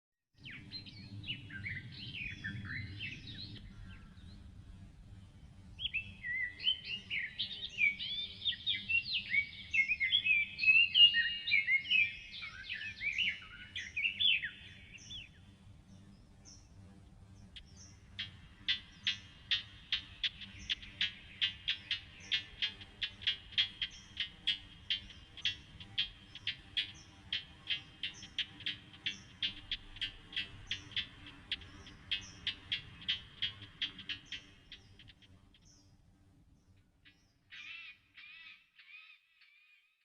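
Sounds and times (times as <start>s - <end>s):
small birds chirping and twittering: 0.4s - 40.0s.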